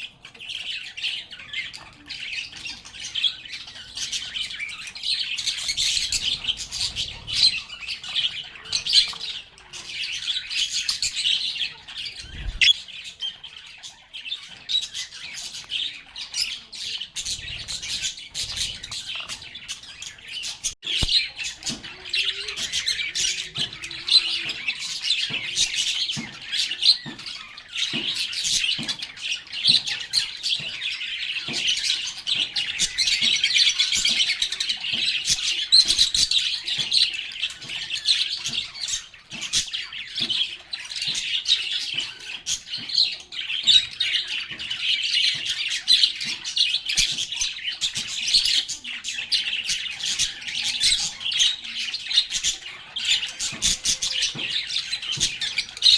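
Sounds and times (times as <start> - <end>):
lovebirds chirping and squawking: 0.0 - 55.9.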